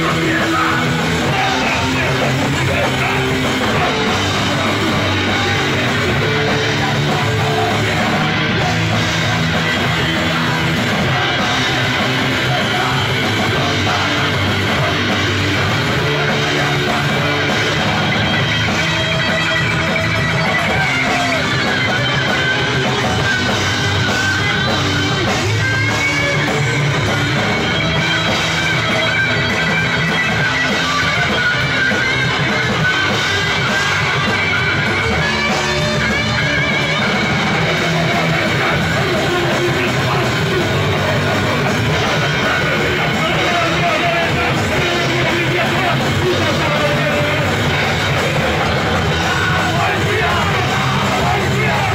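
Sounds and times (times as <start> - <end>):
live rock band playing: 0.0 - 51.9.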